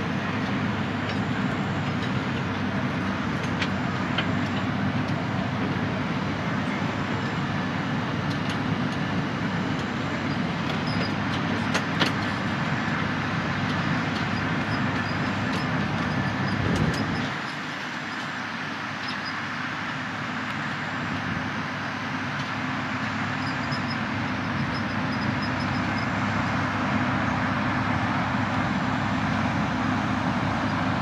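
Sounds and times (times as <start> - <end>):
train rolling on rails: 0.0 - 31.0.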